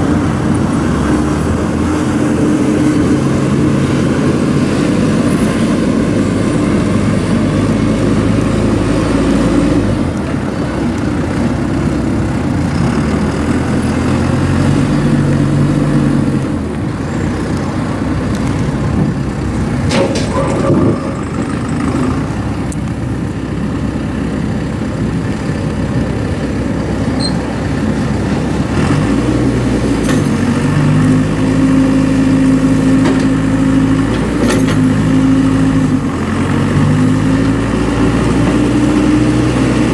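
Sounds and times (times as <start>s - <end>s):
diesel engine changing speed: 0.0s - 39.9s.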